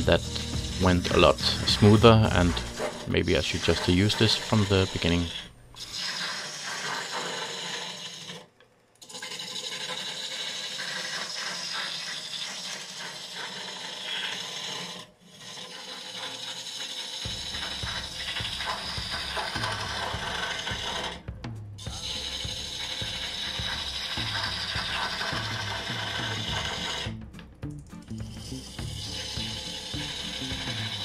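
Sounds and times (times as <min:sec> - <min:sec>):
lathe gouge cutting wood: 0:00.0 - 0:08.3, 0:09.7 - 0:21.3, 0:21.9 - 0:27.2, 0:28.2 - 0:31.0.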